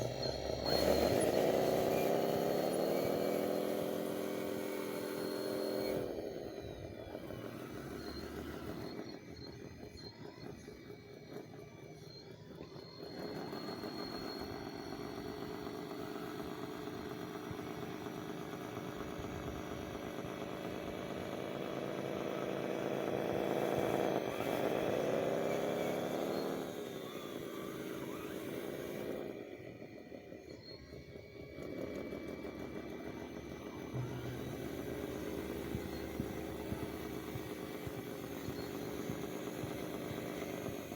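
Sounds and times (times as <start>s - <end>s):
small electric motor whining: 0.0s - 40.9s.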